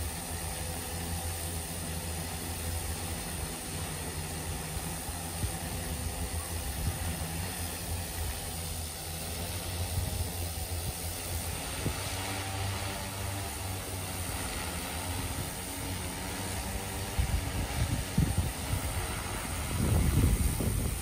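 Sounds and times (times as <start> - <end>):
drone propellers droning hum: 0.0 - 21.0.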